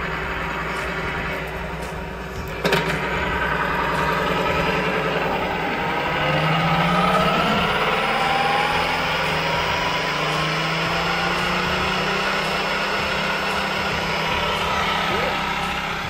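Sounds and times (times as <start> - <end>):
transmission humming and whining: 0.0 - 16.0.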